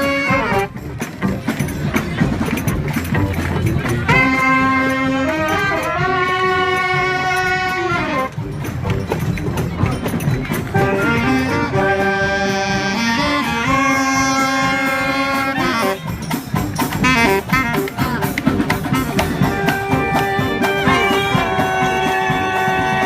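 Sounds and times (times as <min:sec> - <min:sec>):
marching brass band playing: 0:00.0 - 0:23.0.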